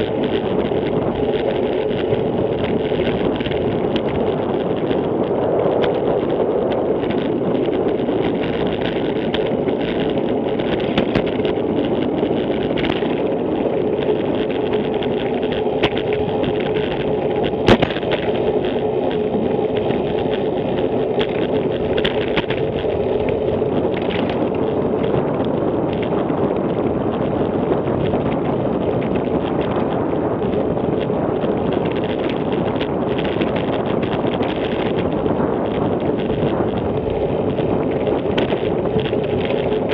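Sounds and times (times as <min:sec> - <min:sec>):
bike ticking and rattling: 0:00.0 - 0:39.9
wind rushing over microphone: 0:00.0 - 0:39.9.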